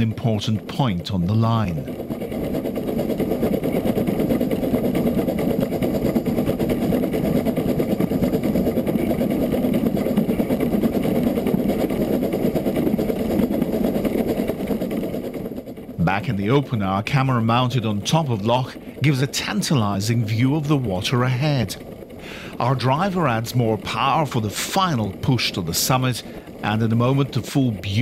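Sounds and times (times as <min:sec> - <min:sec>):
rumble of exhaust and wheels: 0:00.0 - 0:28.0
steam locomotive running: 0:00.0 - 0:28.0.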